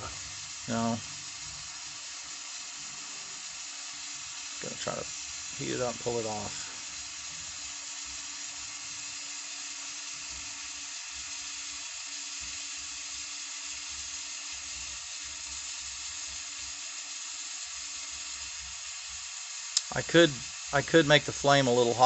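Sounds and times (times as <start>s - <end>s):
faint steady hum: 0.0s - 22.0s
torch flame hissing: 0.0s - 22.0s.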